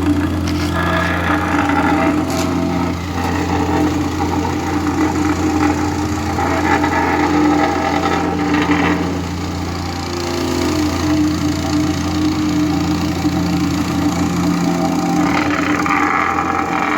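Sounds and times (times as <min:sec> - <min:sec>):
higher rattling: 0:00.0 - 0:16.9
paving machinery engine hum: 0:00.0 - 0:16.9.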